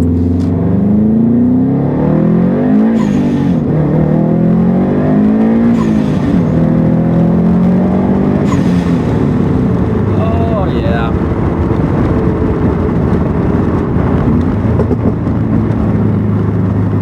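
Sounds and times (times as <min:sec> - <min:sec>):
turbocharged engine revving: 0:00.0 - 0:17.0.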